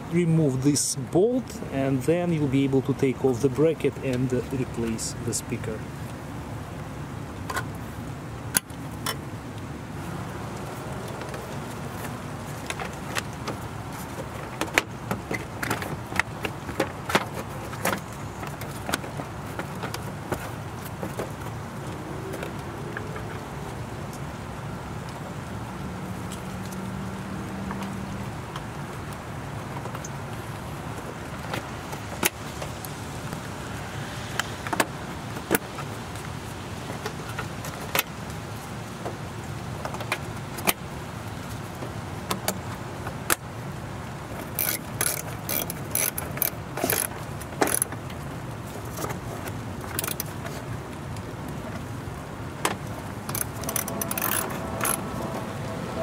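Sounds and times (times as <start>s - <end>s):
steady background noise: 0.0s - 56.0s.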